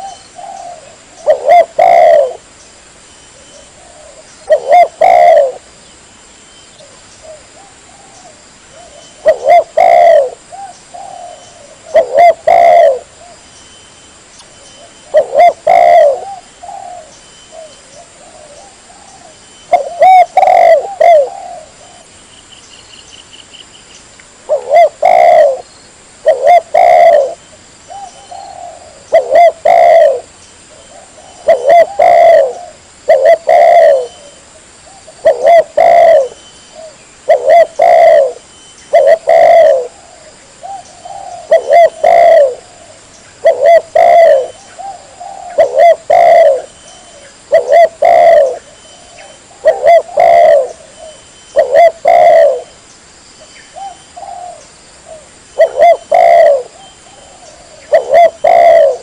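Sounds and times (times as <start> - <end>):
dove cooing: 0.0 - 2.5, 3.4 - 5.7, 6.8 - 13.4, 14.8 - 22.1, 24.5 - 52.8, 53.7 - 59.0.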